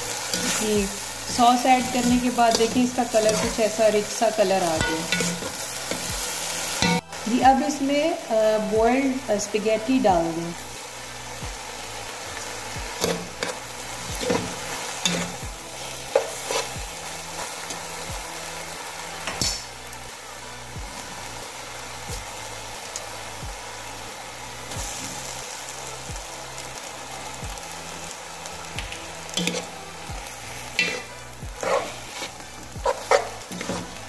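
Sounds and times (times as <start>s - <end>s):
chicken and vegetables sizzling: 0.0s - 34.0s.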